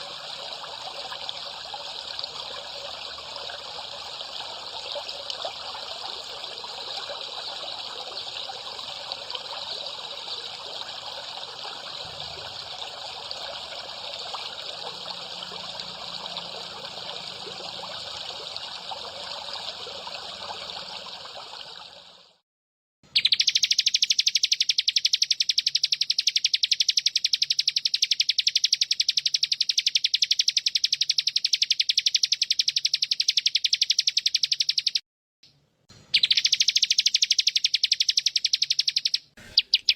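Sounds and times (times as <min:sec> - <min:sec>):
trickling water: 0:00.0 - 0:22.4, 0:23.2 - 0:35.0, 0:36.2 - 0:39.9.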